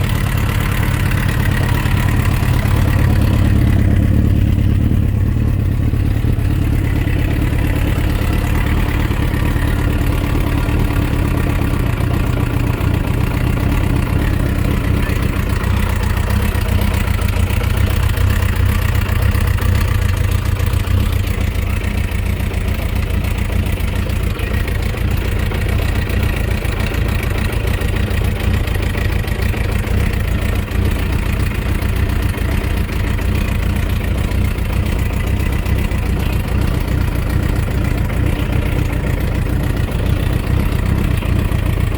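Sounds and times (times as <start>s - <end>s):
motorcycle engine idling with knock: 0.0s - 41.9s.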